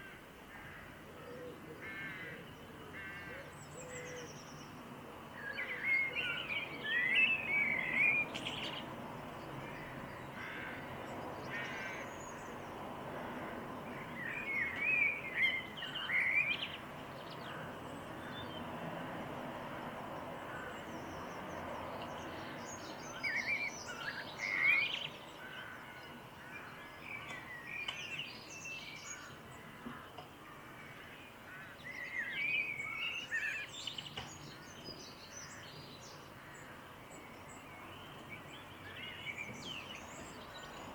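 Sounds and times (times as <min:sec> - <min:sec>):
songbirds warbling and twittering: 0:00.0 - 0:40.9.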